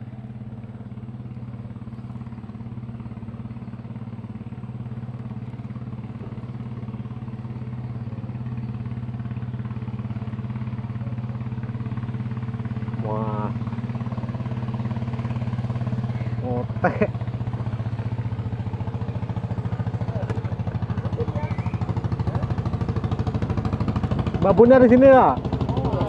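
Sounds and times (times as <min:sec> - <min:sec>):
small boat engine running: 0:00.0 - 0:26.0.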